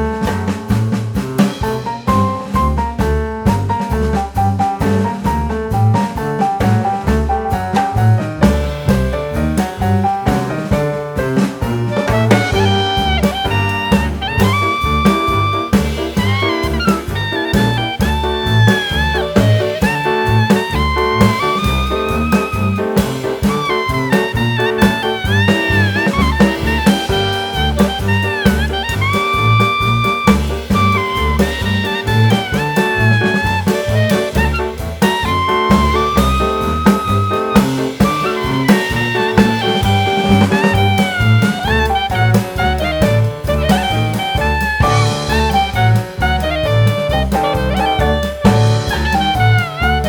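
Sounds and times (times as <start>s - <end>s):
live band playing: 0.0s - 50.0s
shrill lead melody: 4.6s - 50.0s.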